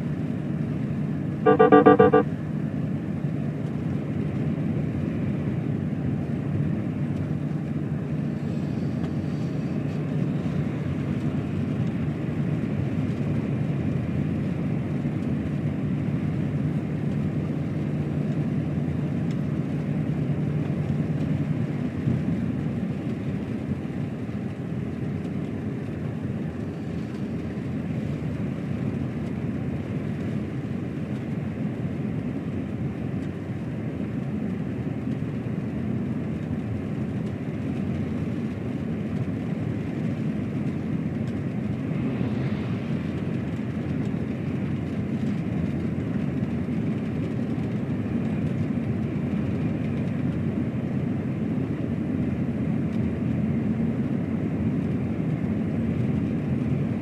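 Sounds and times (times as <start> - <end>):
truck engine and tyre drone: 0.0 - 57.0.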